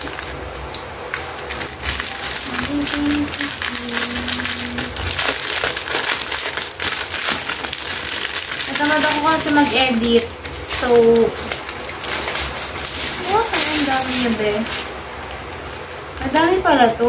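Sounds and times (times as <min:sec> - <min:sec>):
plastic packets crinkling: 0:00.0 - 0:16.6.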